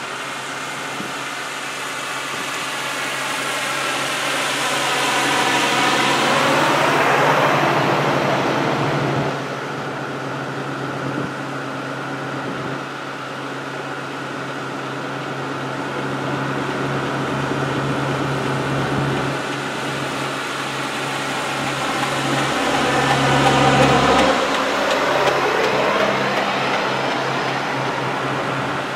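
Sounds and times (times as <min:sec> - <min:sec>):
vehicles driving slowly past: 0:00.0 - 0:11.0, 0:13.7 - 0:28.9.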